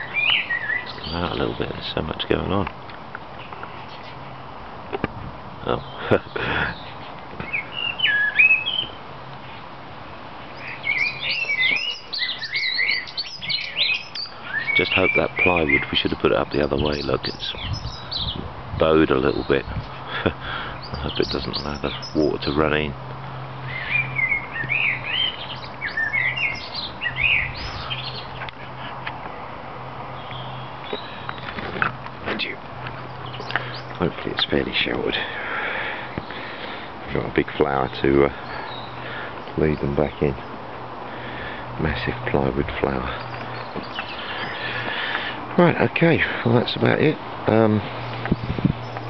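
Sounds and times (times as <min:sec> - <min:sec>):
songbirds singing: 0:00.0 - 0:49.0.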